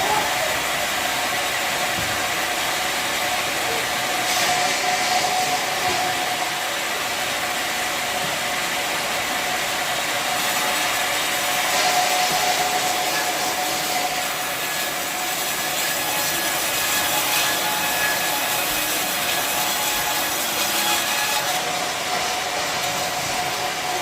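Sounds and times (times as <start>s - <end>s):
bandsaw machinery humming: 0.0s - 24.0s.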